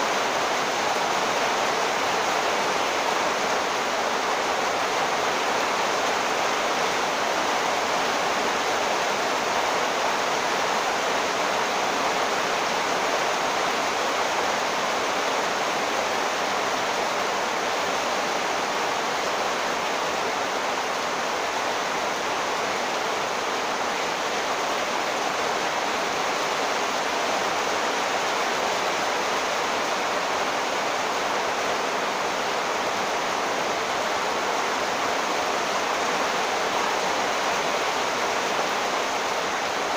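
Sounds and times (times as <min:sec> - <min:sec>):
heavy rain pouring on street: 0:00.0 - 0:39.9.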